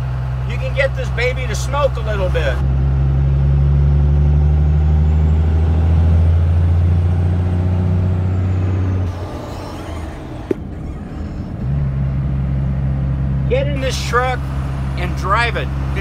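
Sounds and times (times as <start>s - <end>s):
diesel engine deep drone: 0.0s - 16.0s.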